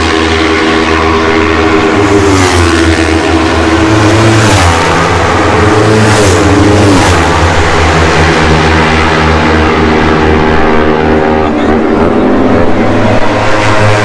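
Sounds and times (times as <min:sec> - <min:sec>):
racing motorcycles passing by: 0:00.0 - 0:14.0
steady low hum: 0:00.0 - 0:14.0.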